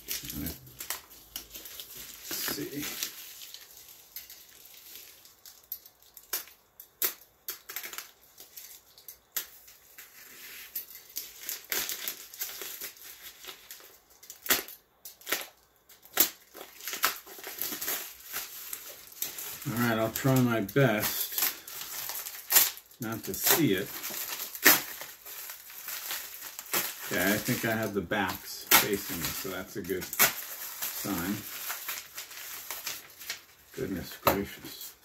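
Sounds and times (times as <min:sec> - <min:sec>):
plastic packaging crinkling: 0:00.0 - 0:35.0.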